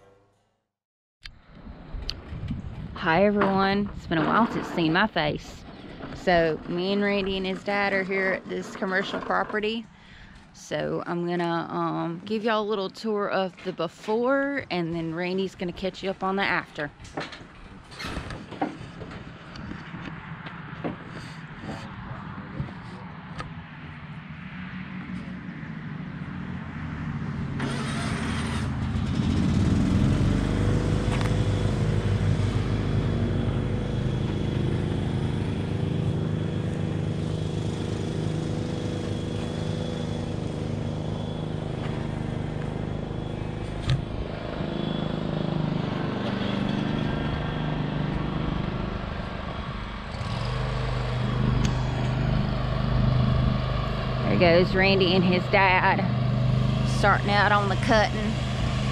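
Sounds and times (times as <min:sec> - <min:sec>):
riding lawn mower engine running: 0:01.3 - 0:11.5, 0:14.8 - 0:58.9.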